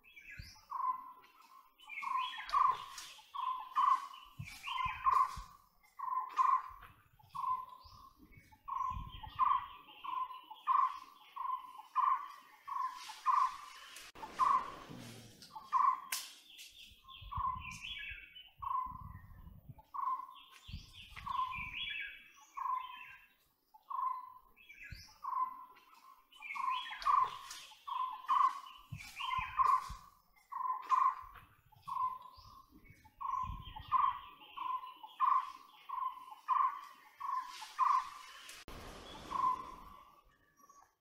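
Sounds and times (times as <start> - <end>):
woodpecker calling: 0.0 - 19.1, 19.8 - 40.9.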